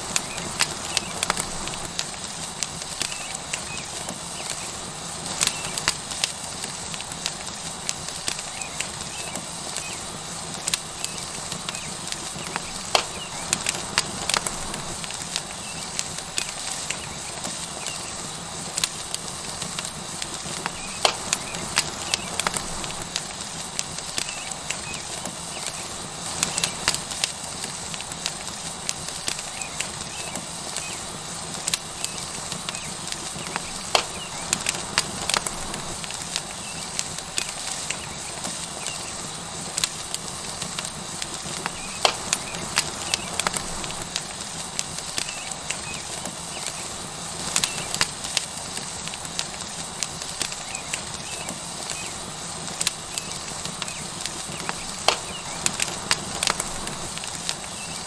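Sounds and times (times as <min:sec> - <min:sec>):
steak sizzling on hot rock: 0:00.0 - 0:58.0
wood fire crackling: 0:00.0 - 0:58.0.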